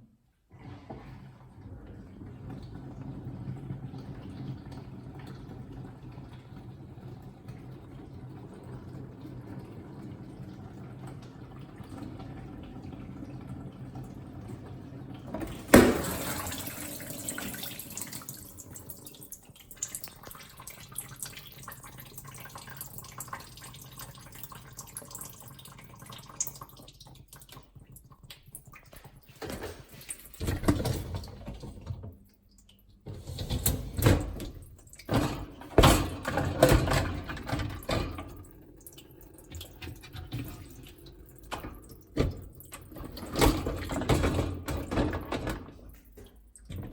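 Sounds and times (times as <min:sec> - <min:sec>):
dishwasher pump hum: 0:00.5 - 0:24.2, 0:28.9 - 0:46.9.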